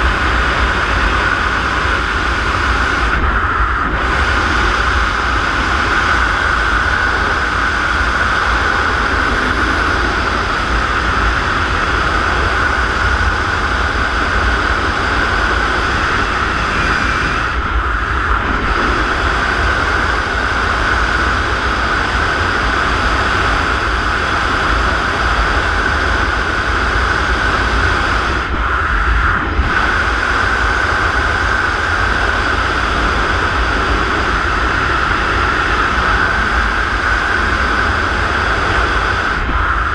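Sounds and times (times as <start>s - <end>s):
rush of airflow over microphone: 0.0s - 39.9s.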